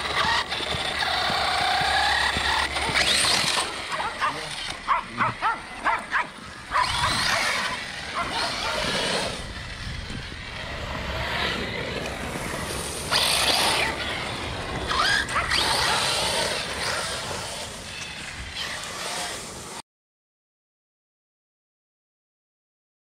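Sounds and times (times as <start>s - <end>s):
rc truck motor whining: 0.0s - 19.8s
tyres on ground: 0.0s - 19.8s.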